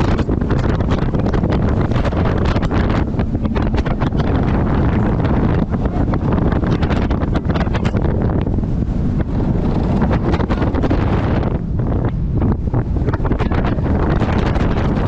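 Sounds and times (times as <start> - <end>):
roller coaster rumbling on track: 0.0 - 15.0
wind blasting microphone: 0.0 - 15.0.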